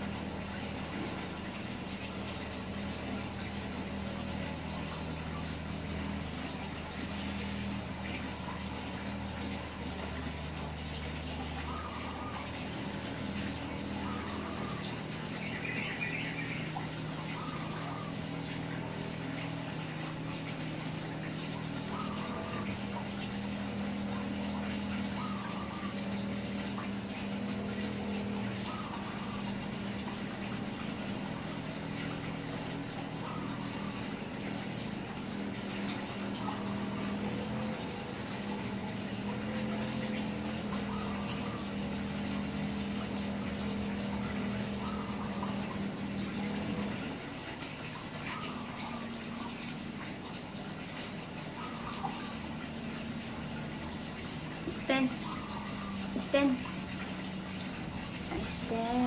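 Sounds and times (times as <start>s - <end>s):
small motor humming: 0.0s - 59.0s.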